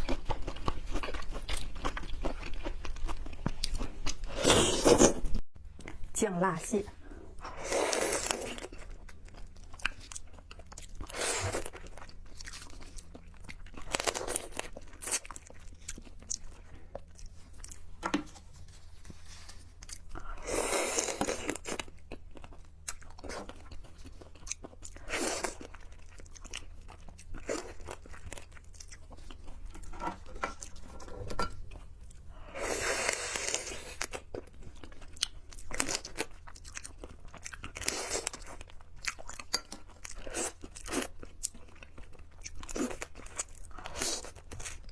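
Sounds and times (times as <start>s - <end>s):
person crunching and chewing: 0.0s - 6.0s, 7.4s - 31.0s, 31.6s - 44.9s.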